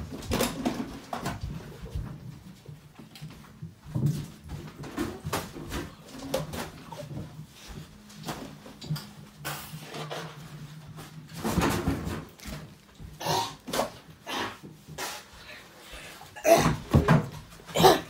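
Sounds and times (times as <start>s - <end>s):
clatter of items at a sink: 0.0s - 15.5s, 16.5s - 18.0s.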